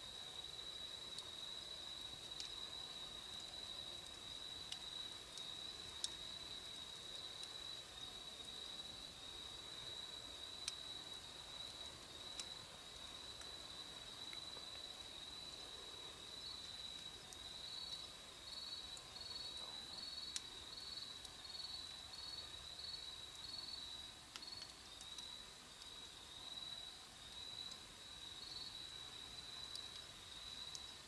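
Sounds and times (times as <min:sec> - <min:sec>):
insect chirps: 0:00.1 - 0:31.0.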